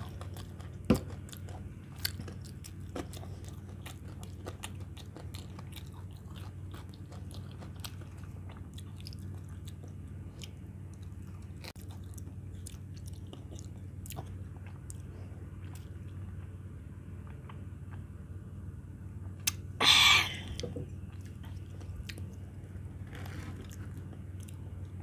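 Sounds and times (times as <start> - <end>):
person chewing crunchy food: 0.0 - 18.2, 19.4 - 25.0
low hum: 0.0 - 25.0.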